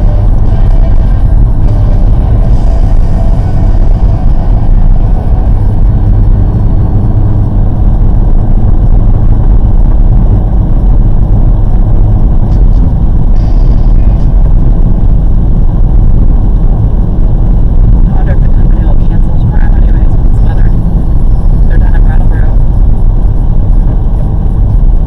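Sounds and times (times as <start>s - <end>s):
car cabin road and engine rumble: 0.0s - 25.0s.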